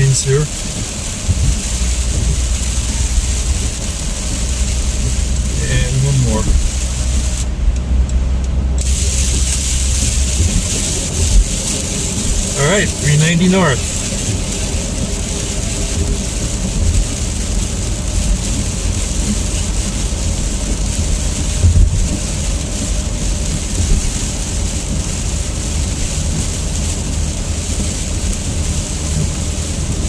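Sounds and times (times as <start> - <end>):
low rumble: 0.0 - 30.0
road and tyre noise: 0.0 - 30.0.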